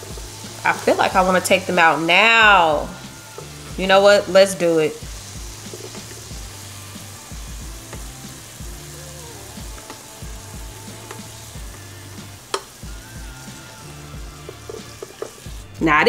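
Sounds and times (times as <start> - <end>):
background music with low beat: 0.0 - 16.0
donuts sizzling in oil: 0.0 - 16.0.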